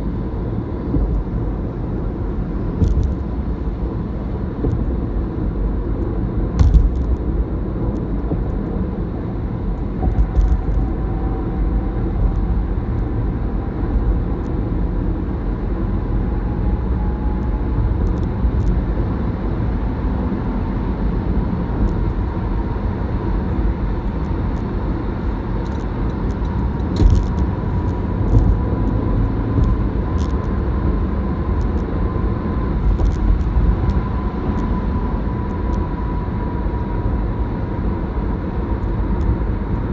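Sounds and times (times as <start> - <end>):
low rumble of tyres and engine: 0.0 - 39.9.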